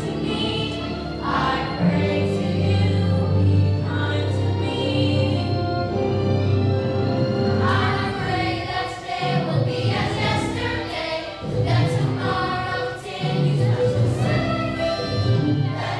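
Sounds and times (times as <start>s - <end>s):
children singing together: 0.0s - 5.4s, 7.6s - 15.9s
musical accompaniment: 0.0s - 15.9s.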